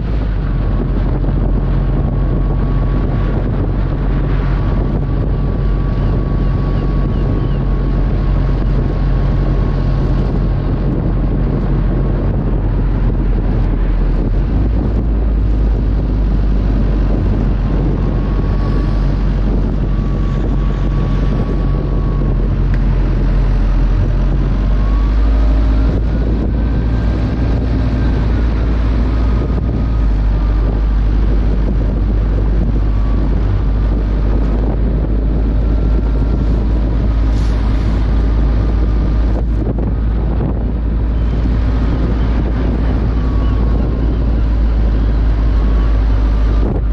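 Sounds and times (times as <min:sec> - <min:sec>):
faint whine: 0:00.0 - 0:46.9
road noise: 0:00.0 - 0:46.9
wind buffeting microphone: 0:00.0 - 0:46.9.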